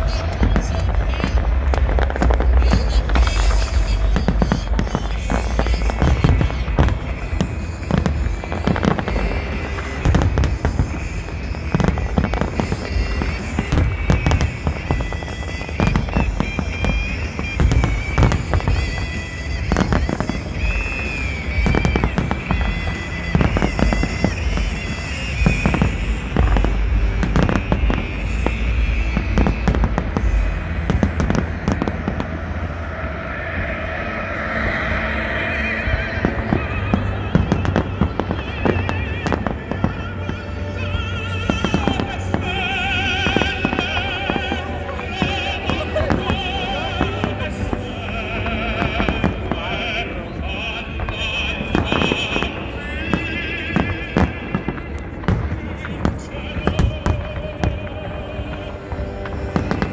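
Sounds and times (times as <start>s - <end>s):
fireworks bursting with bangs: 0.0s - 59.9s
music playing: 0.0s - 59.9s.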